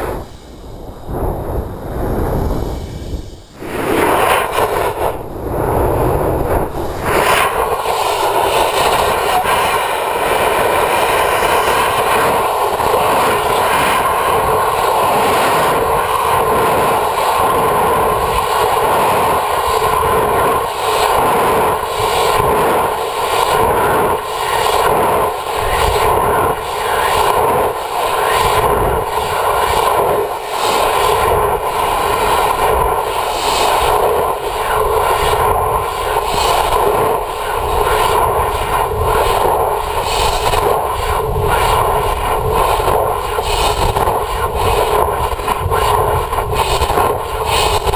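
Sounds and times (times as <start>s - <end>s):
rocket vibration rushing drone: 0.0s - 47.9s.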